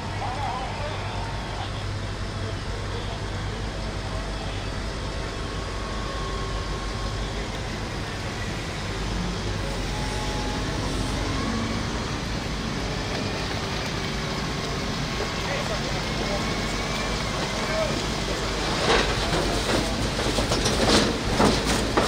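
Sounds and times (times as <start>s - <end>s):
diesel excavator engine running: 0.0s - 22.0s.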